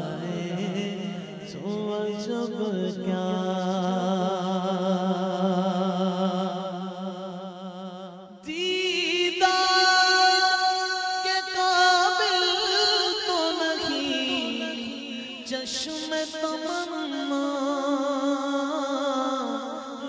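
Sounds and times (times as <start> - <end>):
person singing a cappella: 0.0 - 20.0.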